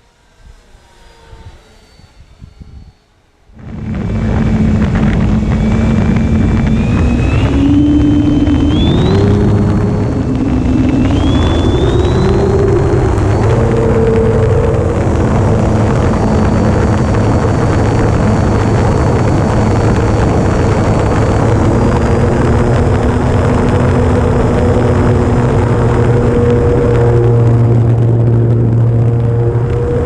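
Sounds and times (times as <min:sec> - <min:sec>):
electric motor whine: 0:00.0 - 0:30.0
loud rushing noise: 0:00.9 - 0:30.0.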